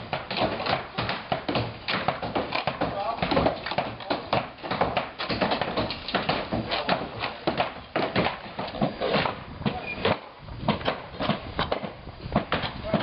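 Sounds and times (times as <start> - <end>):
demolition knocks and clatter: 0.0 - 13.0.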